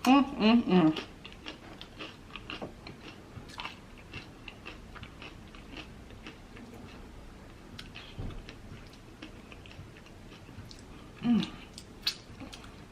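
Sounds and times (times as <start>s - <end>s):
person chewing food: 0.9s - 12.9s.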